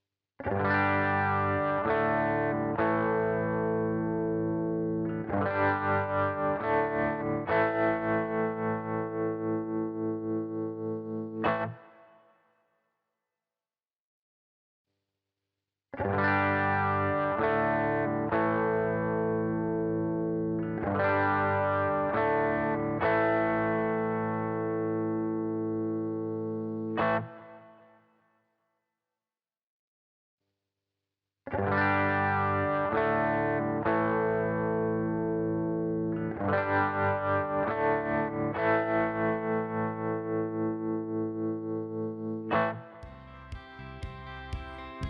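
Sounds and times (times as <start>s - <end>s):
distorted electric guitar chords: 0.5s - 11.8s, 16.0s - 27.6s, 31.5s - 45.0s.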